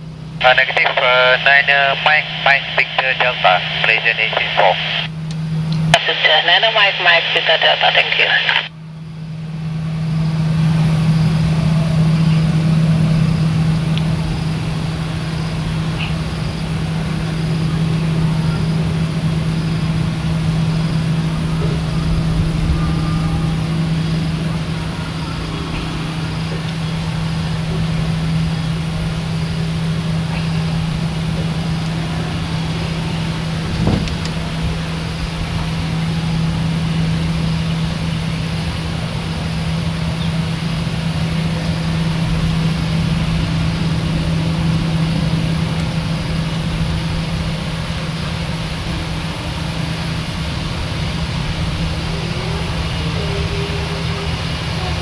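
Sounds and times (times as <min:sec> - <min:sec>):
constant low hum: 0:00.0 - 0:55.0
engine drone: 0:00.0 - 0:55.0.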